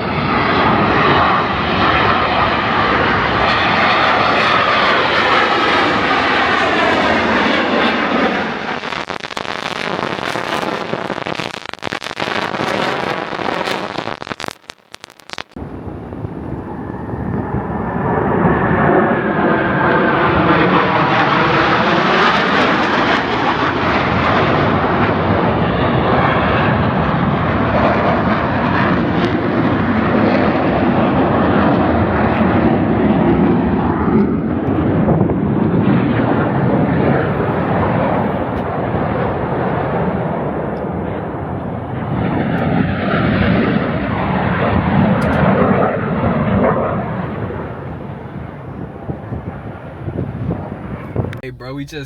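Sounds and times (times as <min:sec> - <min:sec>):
airplane passing overhead: 0:00.0 - 0:11.0, 0:15.6 - 0:52.0.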